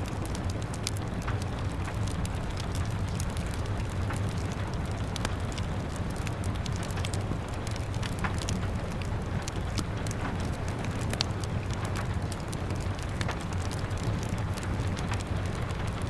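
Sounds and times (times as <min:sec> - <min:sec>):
rumbling rain: 0:00.0 - 0:16.0
wood fire crackling and popping: 0:00.0 - 0:16.0.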